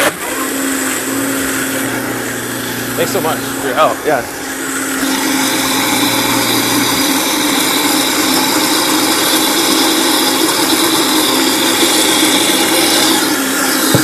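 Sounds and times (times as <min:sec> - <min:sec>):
electric blender running: 0:00.0 - 0:14.0.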